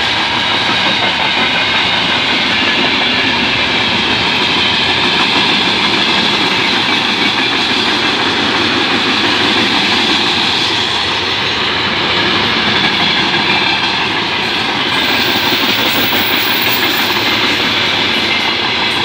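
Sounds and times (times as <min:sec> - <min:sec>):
freight wagons rolling on rails: 0:00.0 - 0:19.0.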